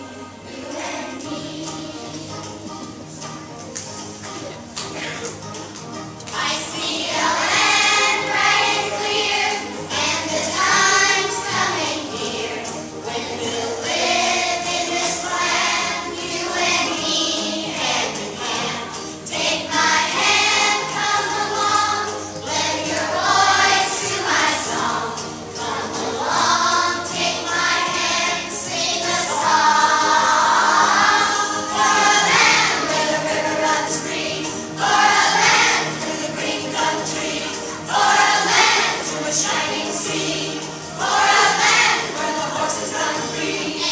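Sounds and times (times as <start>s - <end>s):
children's choir singing: 0.0s - 5.5s, 6.2s - 43.9s.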